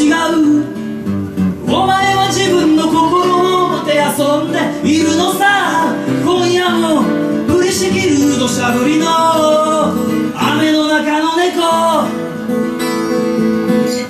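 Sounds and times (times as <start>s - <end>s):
man singing: 0.0s - 12.6s
strummed acoustic guitar: 0.0s - 14.0s.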